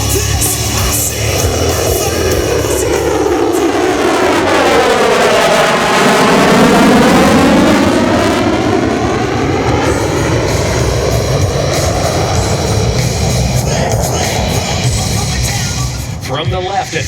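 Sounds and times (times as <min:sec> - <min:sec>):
fighter jet passing: 0:00.0 - 0:17.0.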